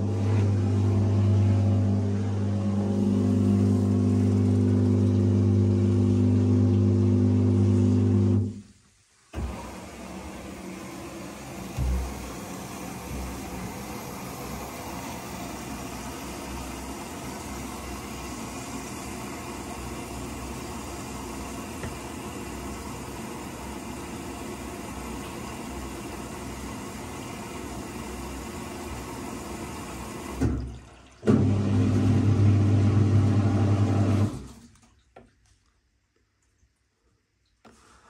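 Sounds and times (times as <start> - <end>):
drain pump humming: 0.0 - 8.6, 9.3 - 35.0
water rushing into washing machine: 0.0 - 8.6, 9.3 - 35.4.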